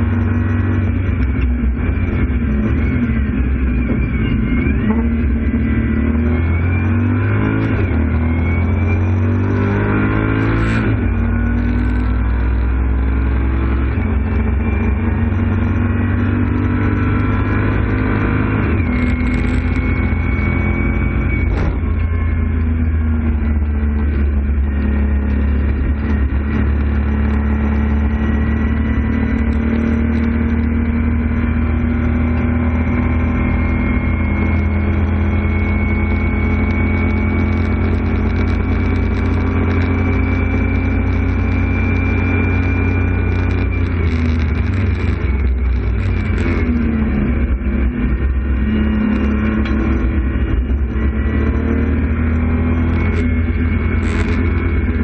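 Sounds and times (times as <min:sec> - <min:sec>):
car engine accelerating with upshifts: 0:00.0 - 0:55.0.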